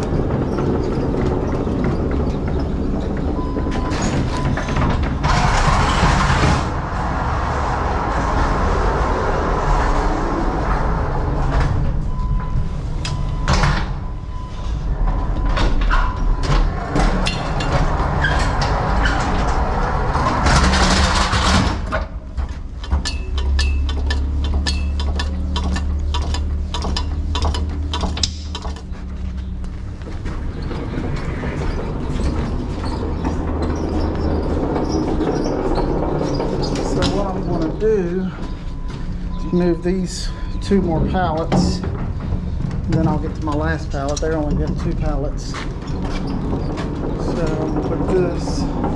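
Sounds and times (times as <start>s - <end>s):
low hum: 0.0s - 48.9s
pallet jack wheels clattering: 0.0s - 48.9s.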